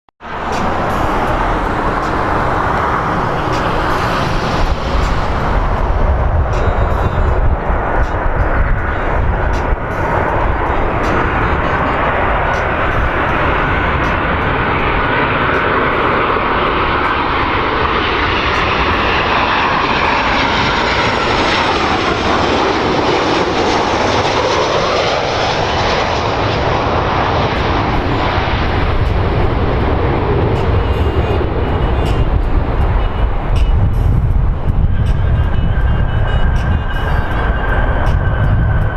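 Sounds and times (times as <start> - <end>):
jet engines roaring and whining: 0.2 - 38.9
low rumble: 0.2 - 38.9.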